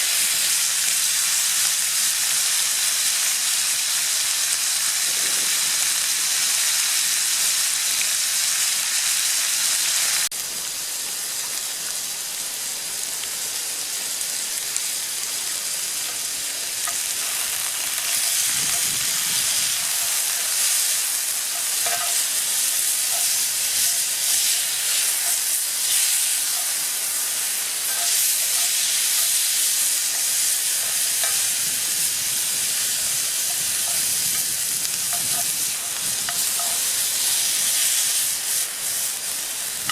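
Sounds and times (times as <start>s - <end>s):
beef sizzling in a skillet: 0.0s - 39.9s.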